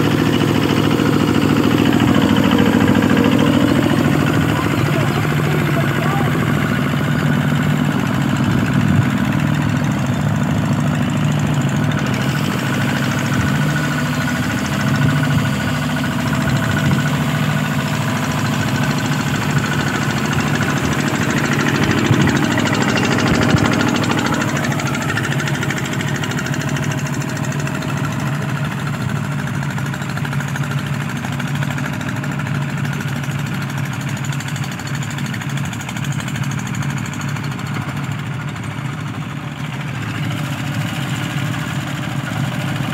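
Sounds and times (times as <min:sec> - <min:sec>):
diesel tractor engine running: 0:00.0 - 0:42.9.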